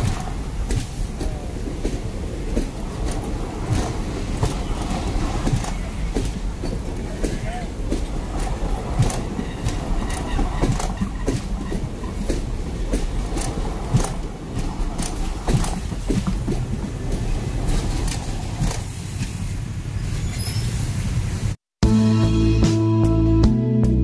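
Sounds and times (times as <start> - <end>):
train wheels clattering on rails: 0.0 - 21.5.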